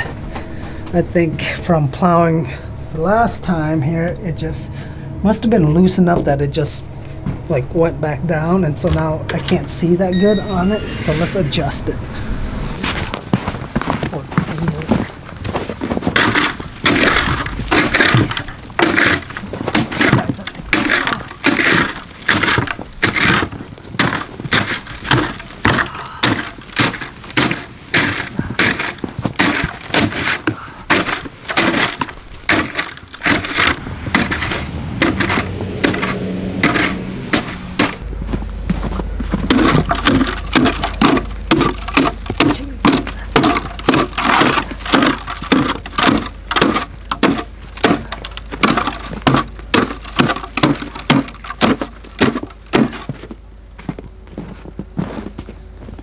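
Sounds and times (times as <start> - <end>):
snow shovel scraping packed snow: 10.1 - 56.0.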